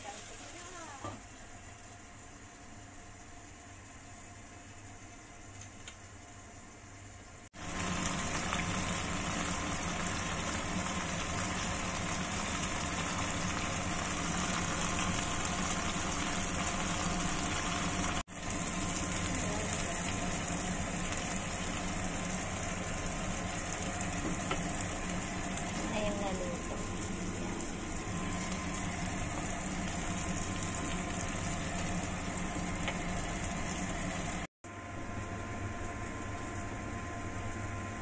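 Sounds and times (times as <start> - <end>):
fish sizzling in oil: 0.0 - 38.0.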